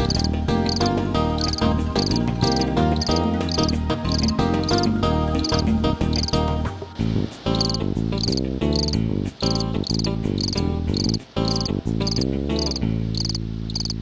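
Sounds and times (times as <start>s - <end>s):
cricket chirping: 0.0s - 6.4s, 7.5s - 14.0s
background music chords: 0.0s - 14.0s.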